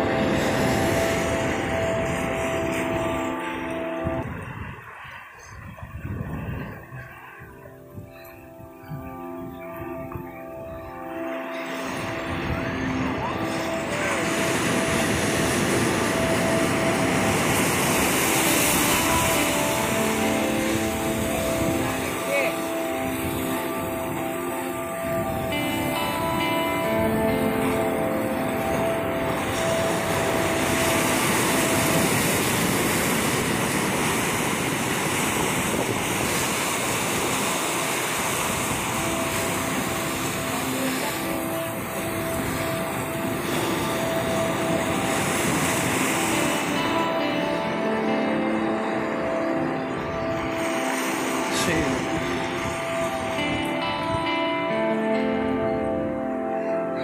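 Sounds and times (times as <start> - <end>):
surf washing over rocks: 0.0 - 8.0, 11.4 - 56.2
wave breaking and foaming: 0.0 - 8.0, 9.1 - 57.0.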